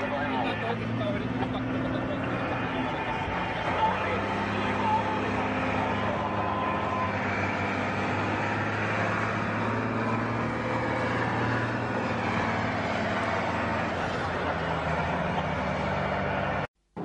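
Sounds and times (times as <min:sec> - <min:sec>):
engines humming: 0:00.0 - 0:17.0.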